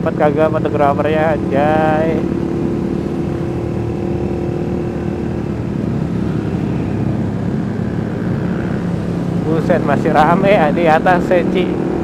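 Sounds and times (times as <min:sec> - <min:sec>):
motorcycle engine running: 0:00.0 - 0:12.0
other motorcycles: 0:00.0 - 0:12.0
road noise: 0:00.0 - 0:12.0.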